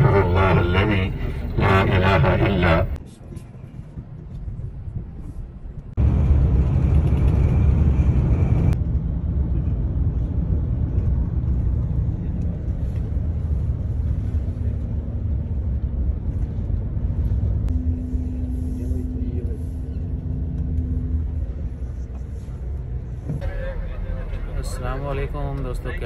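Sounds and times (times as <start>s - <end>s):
bus engine rumble: 0.0s - 26.0s
road noise: 0.0s - 26.0s.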